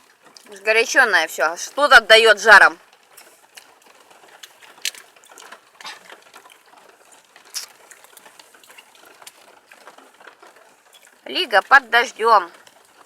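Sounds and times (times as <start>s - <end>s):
bonfire crackling: 0.0s - 13.0s
fire popping: 0.0s - 13.0s.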